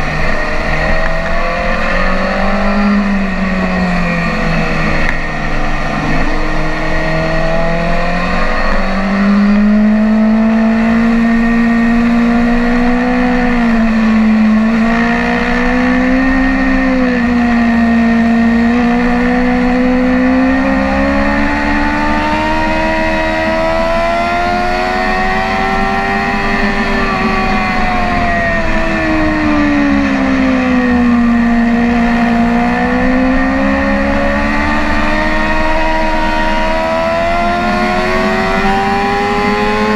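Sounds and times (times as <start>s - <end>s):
low wind rush: 0.0s - 39.9s
motorcycle engine revving: 0.0s - 39.9s.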